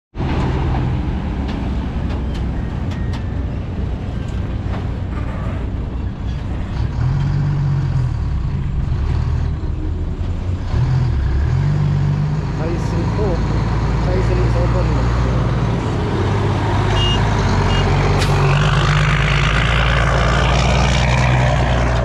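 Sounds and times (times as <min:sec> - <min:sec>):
diesel truck engine droning: 0:00.2 - 0:22.0.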